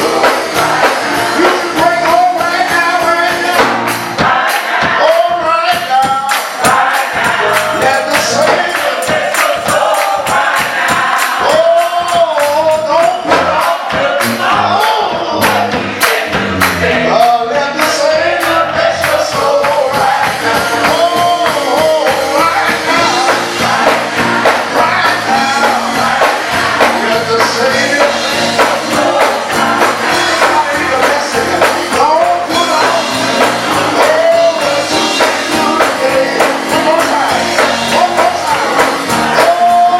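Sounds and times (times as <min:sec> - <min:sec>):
choir singing with band: 0:00.0 - 0:39.9.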